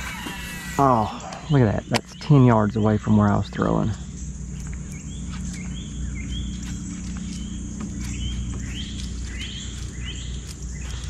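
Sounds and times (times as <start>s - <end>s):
bird chirping: 0.0s - 11.0s
high insect drone: 0.0s - 11.0s
low steady hum: 0.0s - 11.0s.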